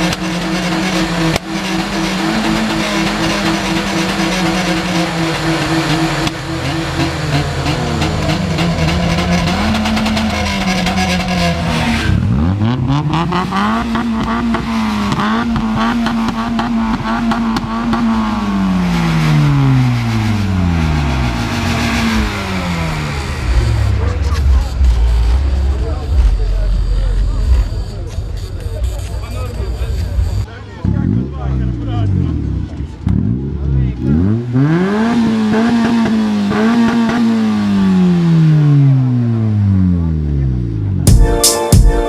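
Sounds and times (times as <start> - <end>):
car engine revving: 0.0 - 41.7.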